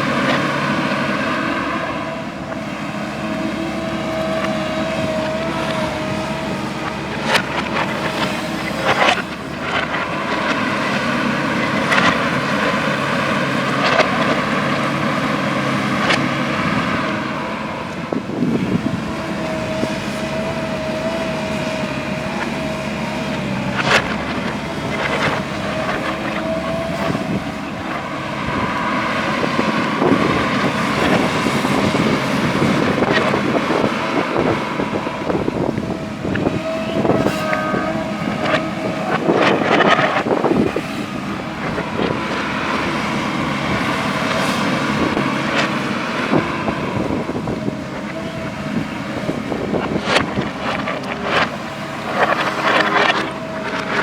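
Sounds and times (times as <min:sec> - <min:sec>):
diesel engine running: 0:00.0 - 0:54.0
wavering whine: 0:00.0 - 0:54.0.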